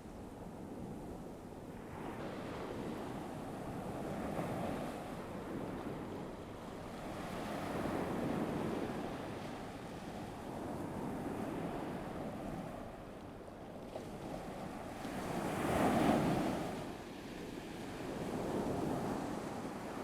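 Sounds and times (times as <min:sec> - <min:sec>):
ocean waves washing ashore: 0:00.6 - 0:20.0.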